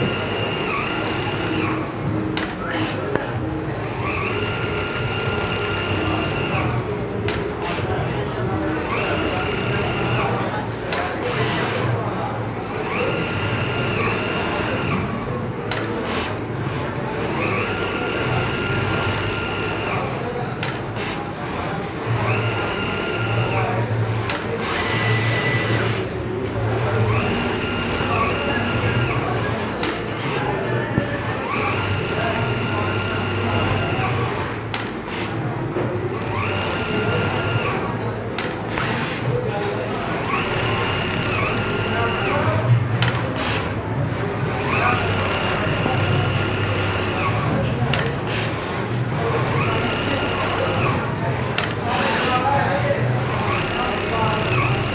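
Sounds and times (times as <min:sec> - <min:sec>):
sewing machine humming: 0:00.0 - 0:03.1, 0:03.7 - 0:30.6, 0:31.2 - 0:35.3, 0:36.1 - 0:54.9.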